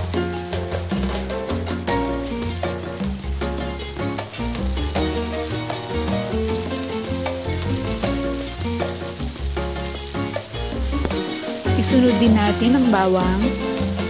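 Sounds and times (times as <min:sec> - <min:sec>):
background music with bass: 0:00.0 - 0:14.0
onion sizzling in hot oil: 0:00.0 - 0:14.0.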